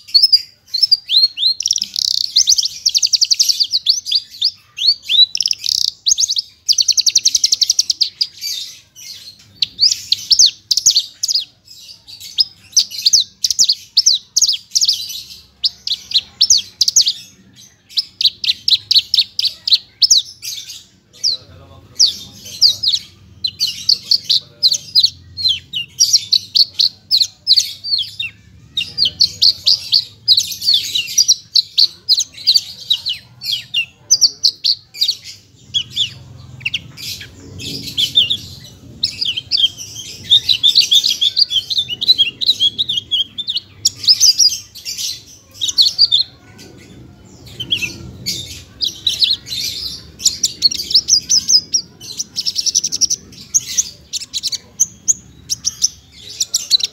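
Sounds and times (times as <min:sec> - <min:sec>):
lark singing rapid chirps and trills: 0:00.0 - 0:56.9.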